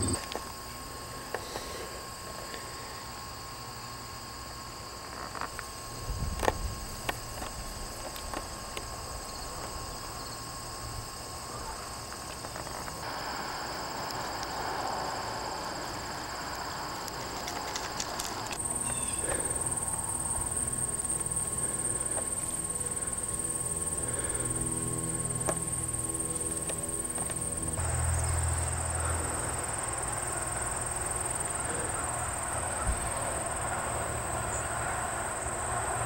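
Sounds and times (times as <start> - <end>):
insects singing: 0.0 - 36.0.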